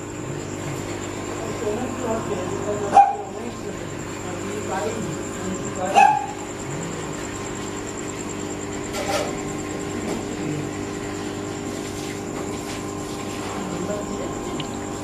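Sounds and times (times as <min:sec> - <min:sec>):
aquarium equipment humming: 0:00.0 - 0:15.0
constant high whine: 0:00.0 - 0:15.0.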